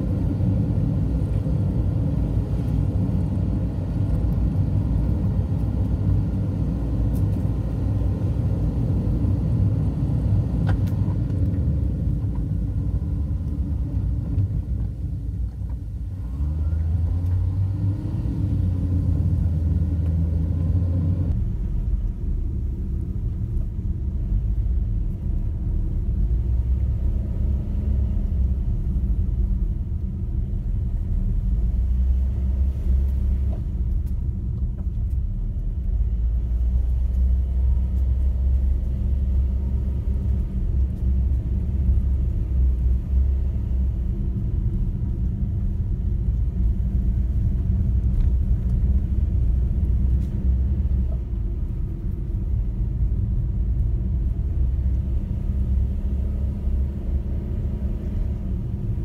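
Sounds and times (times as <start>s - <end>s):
car engine growling under load: 0.0s - 59.0s.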